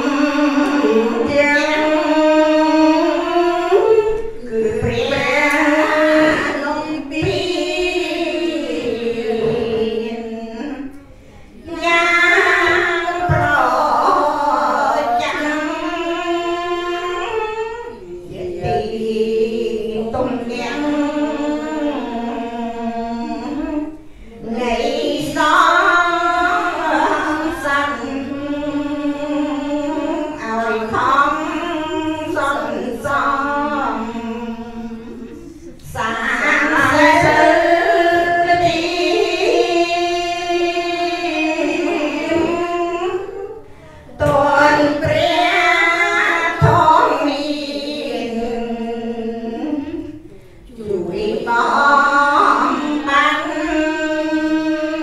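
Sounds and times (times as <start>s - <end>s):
women chanting in unison: 0.0s - 55.0s.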